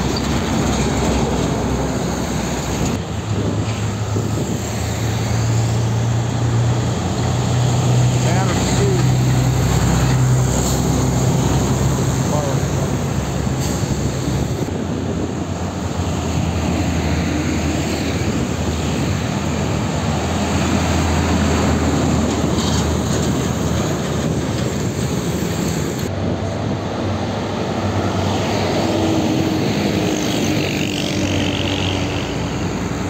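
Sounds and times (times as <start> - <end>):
diesel truck engine rumble: 0.0 - 33.0
tyre noise on road: 0.0 - 33.0.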